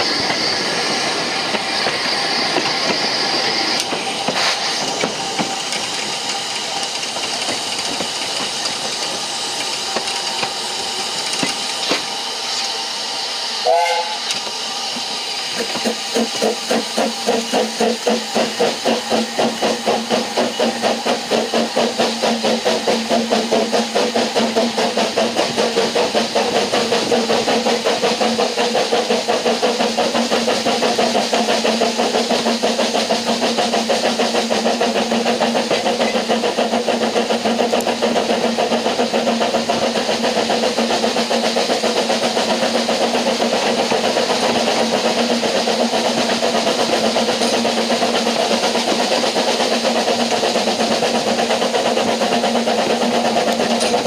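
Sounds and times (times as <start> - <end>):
steam locomotive exhaust chuffs: 0.0 - 54.0.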